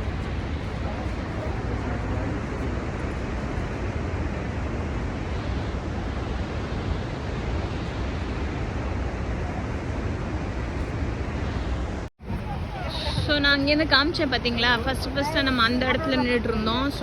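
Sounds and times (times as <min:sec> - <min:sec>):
waterfall roaring: 0:00.0 - 0:17.0
wind rumbling on microphone: 0:00.0 - 0:17.0.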